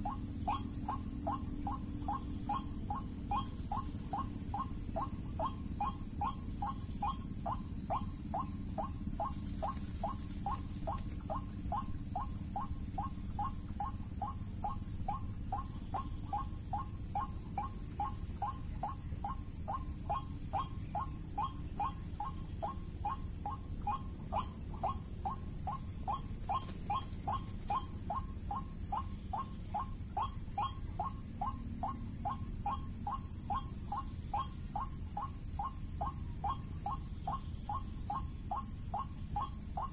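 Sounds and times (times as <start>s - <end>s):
waterhen calls: 0.0s - 39.9s.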